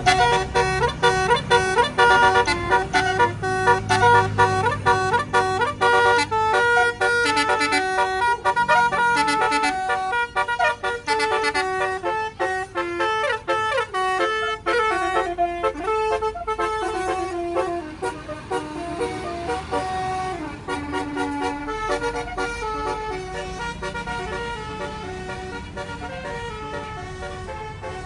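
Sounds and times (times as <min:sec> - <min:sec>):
low engine hum: 0:00.0 - 0:28.0
musical bus horn playing tune: 0:00.0 - 0:28.0.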